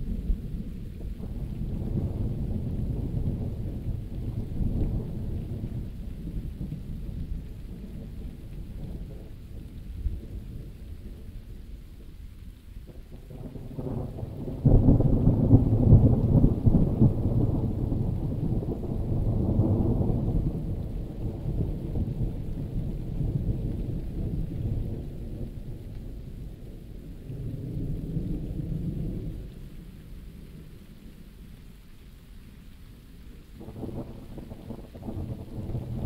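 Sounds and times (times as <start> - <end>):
thunder clap and rumble: 0.0 - 12.1, 12.8 - 31.2, 33.5 - 36.0
steady rain: 0.0 - 36.0.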